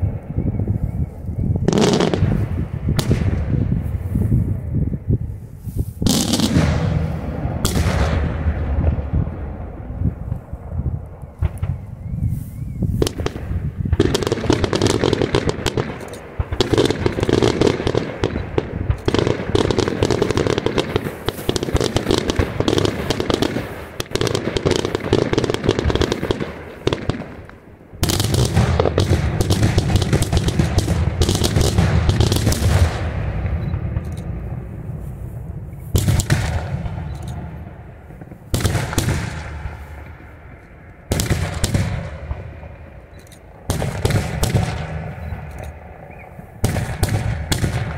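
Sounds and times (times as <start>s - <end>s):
fireworks bangs and crackle: 0.0s - 47.9s.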